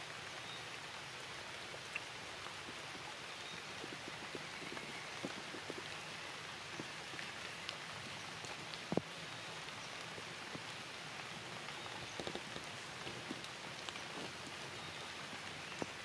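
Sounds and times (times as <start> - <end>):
raindrops ticking on surfaces: 0.0 - 16.0
steady rain hiss: 0.0 - 16.0.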